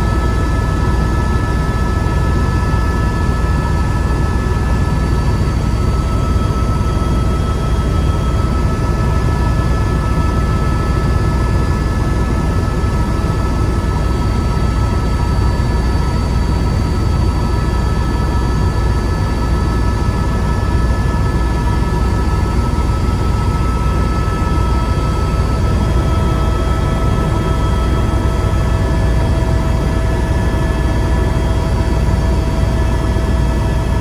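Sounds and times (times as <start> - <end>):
helicopter rotor and engine drone: 0.0 - 34.0.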